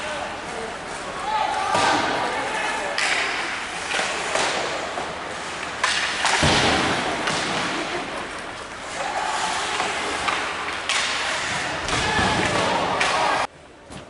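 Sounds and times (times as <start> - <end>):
thumps and knocks in a hall: 1.3 - 8.4, 9.2 - 14.0.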